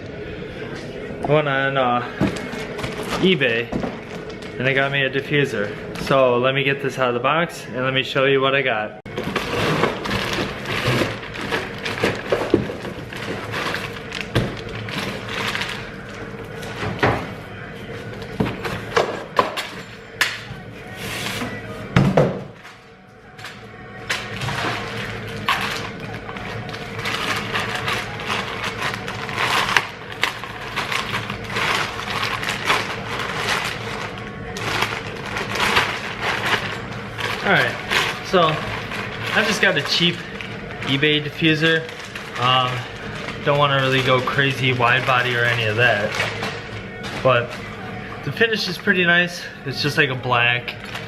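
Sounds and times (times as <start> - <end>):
steady low hum: 0.0 - 51.0
packaging rustling and scraping: 2.1 - 6.2, 9.1 - 20.1, 22.5 - 51.0.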